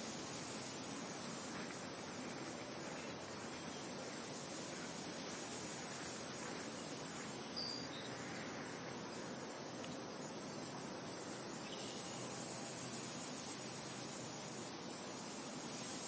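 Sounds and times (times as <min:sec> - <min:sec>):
wind hissing: 0:00.0 - 0:16.0.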